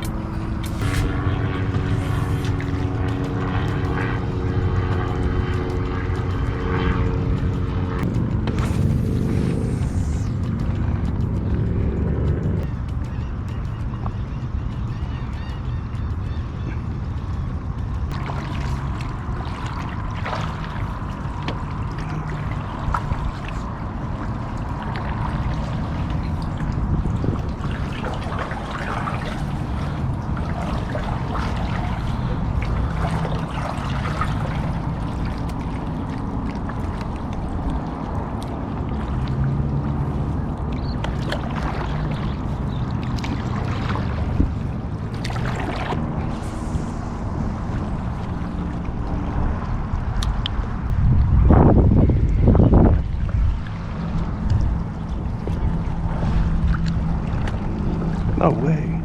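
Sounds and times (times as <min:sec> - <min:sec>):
steady low rumble: 0:00.0 - 0:59.0
water trickling and splashing: 0:00.0 - 0:59.0.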